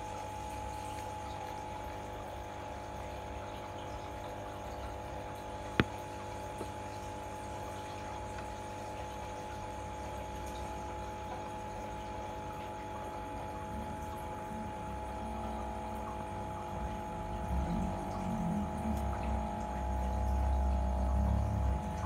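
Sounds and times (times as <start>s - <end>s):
aquarium pump humming: 0.0s - 22.0s.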